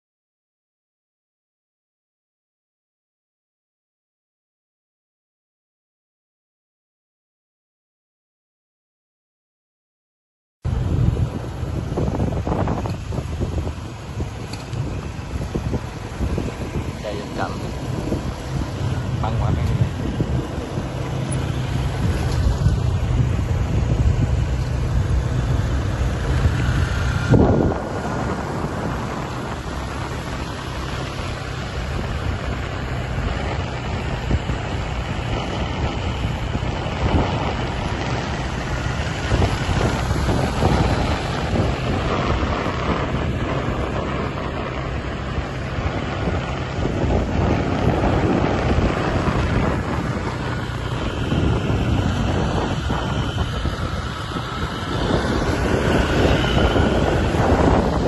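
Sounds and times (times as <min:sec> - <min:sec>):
motor scooter engine running: 0:10.7 - 0:58.0
wind buffeting microphone: 0:10.7 - 0:58.0.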